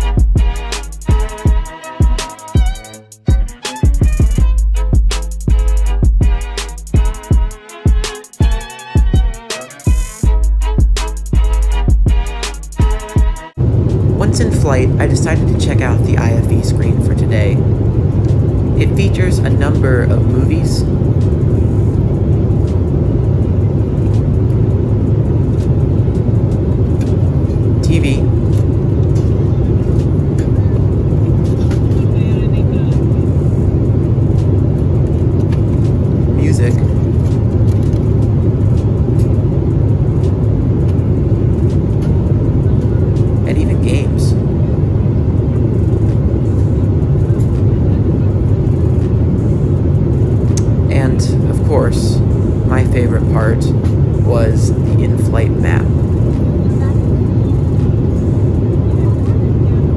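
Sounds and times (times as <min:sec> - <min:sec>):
airliner cabin rumble: 0:10.2 - 0:59.9.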